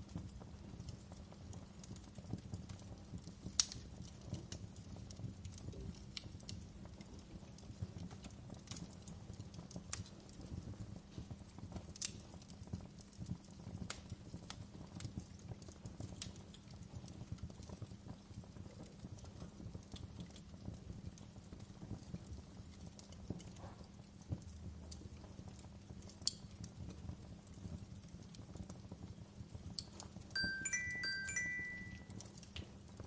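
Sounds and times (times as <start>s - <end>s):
fireplace fire crackling: 0.0s - 33.0s.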